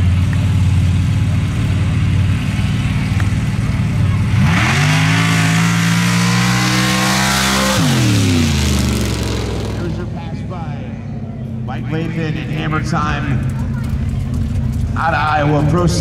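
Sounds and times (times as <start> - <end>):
truck engine idling choppily: 0.0 - 6.5, 7.8 - 16.0
truck engine at full throttle: 0.0 - 16.0.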